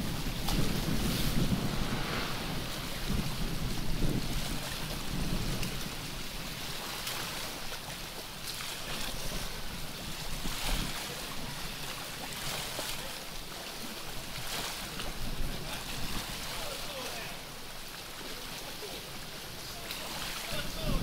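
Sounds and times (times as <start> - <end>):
wind on microphone: 0.0 - 16.8, 19.1 - 21.0
water lapping and sloshing: 0.0 - 21.0.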